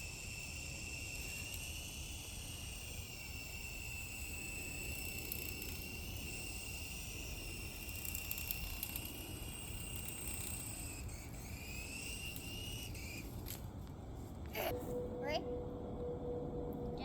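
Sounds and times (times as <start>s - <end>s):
toy helicopter motor whine: 0.0s - 13.7s.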